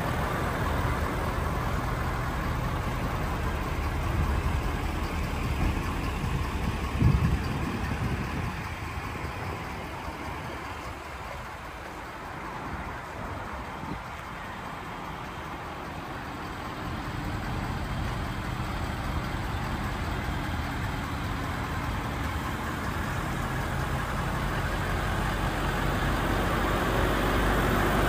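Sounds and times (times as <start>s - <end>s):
pickup engine idling: 0.0s - 28.0s.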